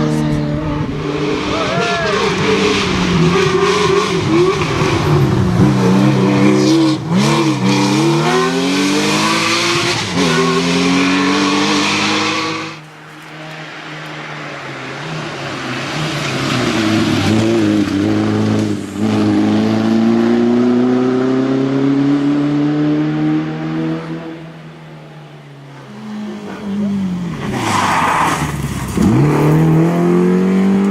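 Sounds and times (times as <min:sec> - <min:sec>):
rally car engines revving: 0:00.0 - 0:30.9.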